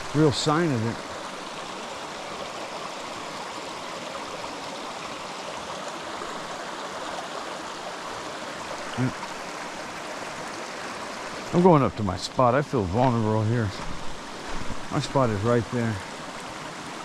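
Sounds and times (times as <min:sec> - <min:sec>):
creek water running over rocks: 0:00.0 - 0:17.0.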